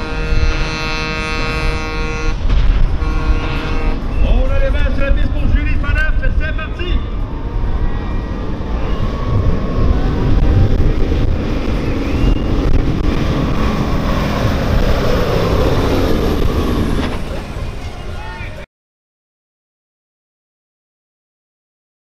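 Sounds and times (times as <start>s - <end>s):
diesel truck engine under load: 0.0s - 6.4s, 7.0s - 18.2s.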